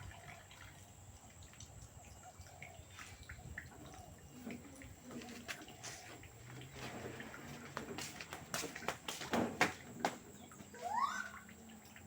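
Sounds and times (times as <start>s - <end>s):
water sloshing in washing machine: 0.0s - 12.0s.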